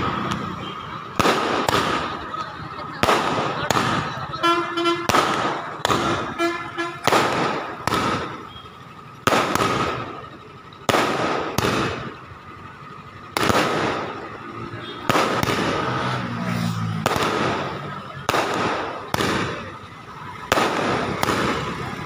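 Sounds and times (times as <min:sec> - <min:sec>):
firecrackers bursting: 0:00.0 - 0:22.0.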